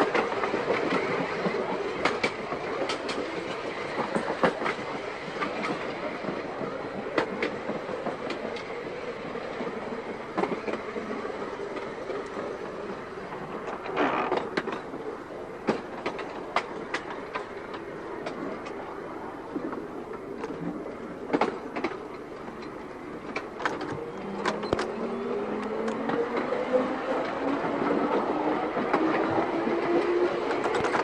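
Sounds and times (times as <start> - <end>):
electric tram rumbling: 0.0 - 31.0
wheels clicking over rail joints: 0.0 - 31.0.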